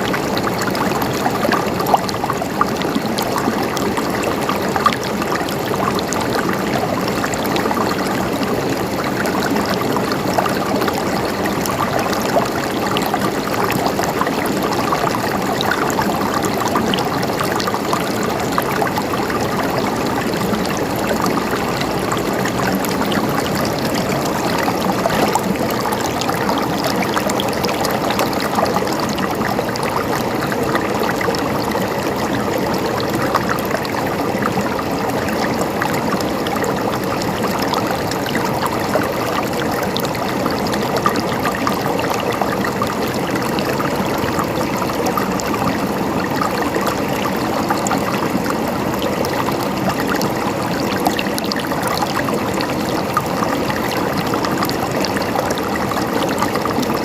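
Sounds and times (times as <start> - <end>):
river water rushing: 0.0 - 57.0
water splashes and trickles: 0.0 - 57.0.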